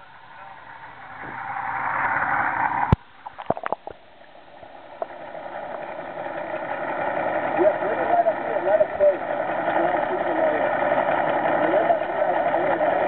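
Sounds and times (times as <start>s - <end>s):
underwater rushing and gurgling: 0.0s - 13.0s.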